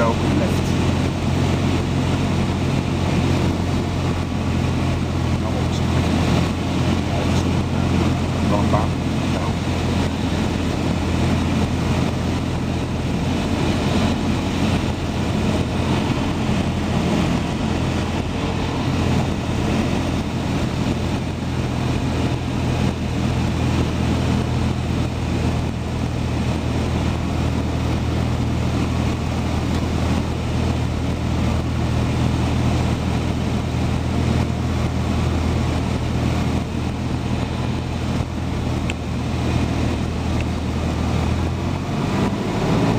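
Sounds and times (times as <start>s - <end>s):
propeller plane engine drone: 0.0s - 42.9s.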